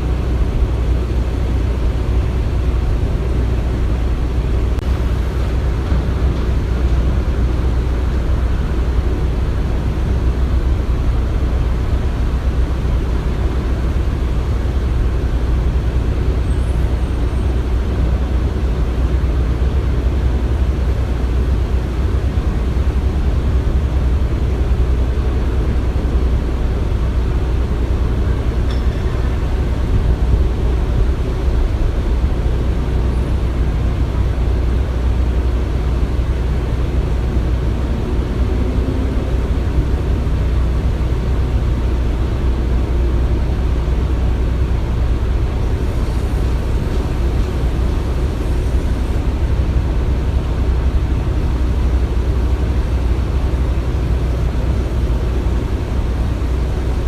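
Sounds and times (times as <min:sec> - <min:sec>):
deep machinery rumble: 0:00.0 - 0:57.0.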